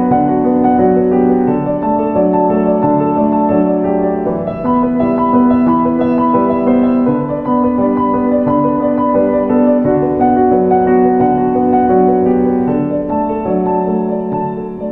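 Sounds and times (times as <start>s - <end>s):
gentle piano music: 0.0s - 14.9s.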